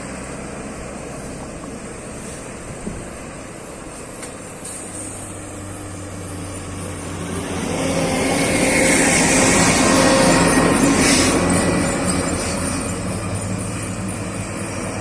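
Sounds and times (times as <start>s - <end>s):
heavy truck engine: 0.0s - 15.0s.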